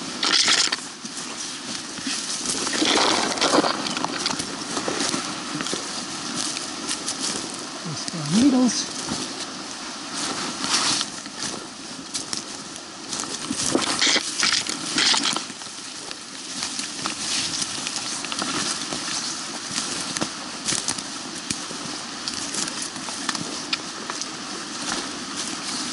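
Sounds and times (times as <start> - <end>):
creek rushing: 0.0 - 25.9
footsteps crunching through dry leaves: 0.0 - 25.9.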